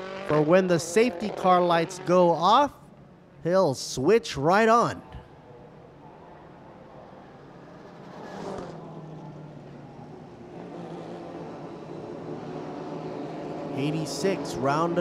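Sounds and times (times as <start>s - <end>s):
racing car engines droning: 0.0s - 3.2s, 4.8s - 15.0s.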